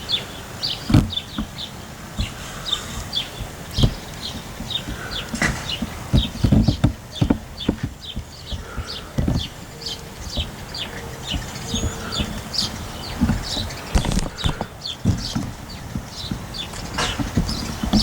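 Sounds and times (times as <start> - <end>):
gusting wind: 0.0 - 18.0
rain knocking on plastic bag: 0.0 - 18.0.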